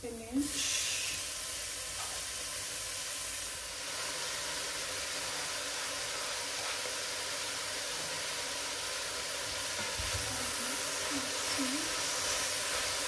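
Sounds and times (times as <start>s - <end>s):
spinach sizzling in pot: 0.0s - 13.0s.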